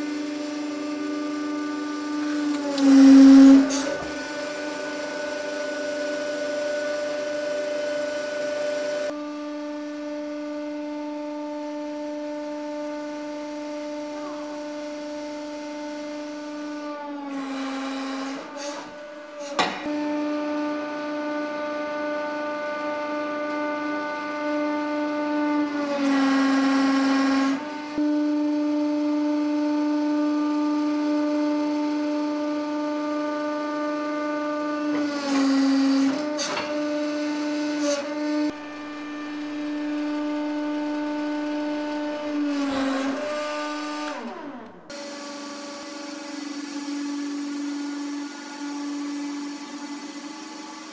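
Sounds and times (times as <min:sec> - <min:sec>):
hydraulic pump whine: 0:00.0 - 0:50.9.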